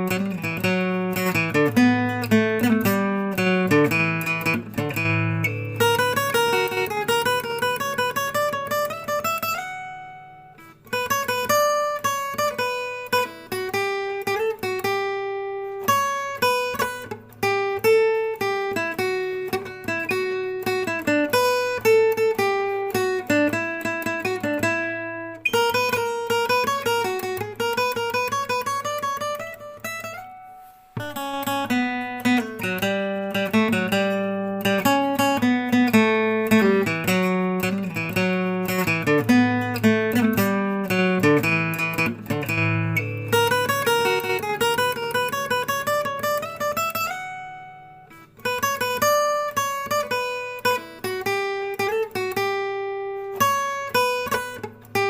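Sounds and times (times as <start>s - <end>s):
acoustic guitar plucked melody: 0.0s - 55.0s.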